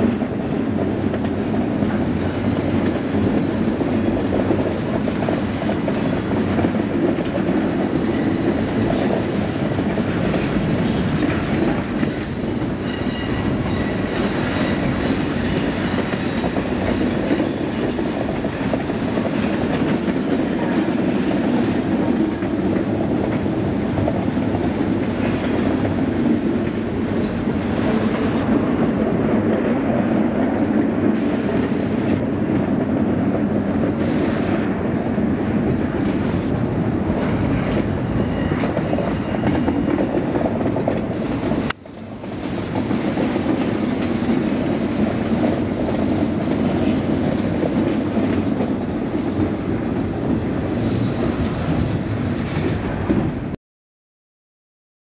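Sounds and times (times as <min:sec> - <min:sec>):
freight train wheels rumbling on rail: 0:00.0 - 0:53.6.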